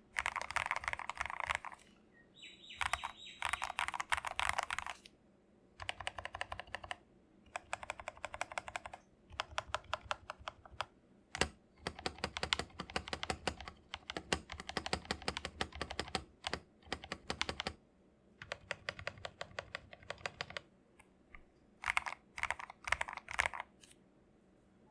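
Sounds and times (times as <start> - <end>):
mechanical keyboard typing: 0.1 - 1.9, 2.8 - 5.1, 5.8 - 17.8, 18.4 - 20.7, 21.8 - 23.8.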